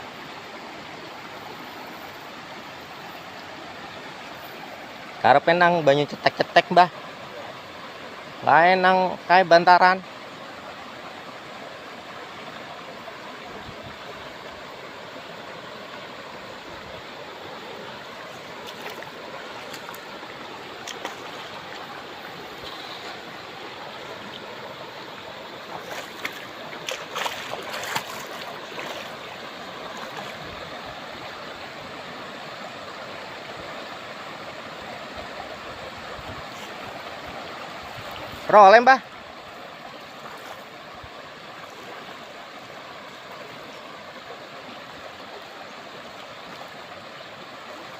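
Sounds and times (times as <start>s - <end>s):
river water flowing over stones: 0.0s - 47.9s
water splashes: 0.0s - 47.9s.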